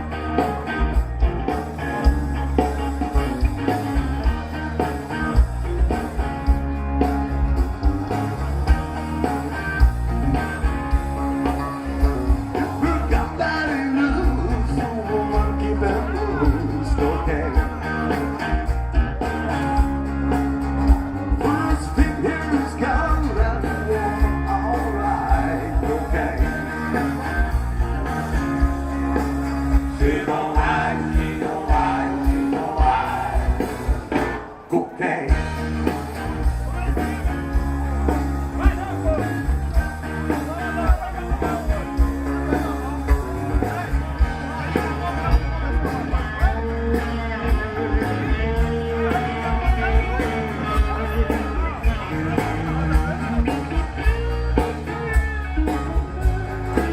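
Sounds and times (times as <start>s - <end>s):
rock and roll song with singing: 0.0s - 56.9s.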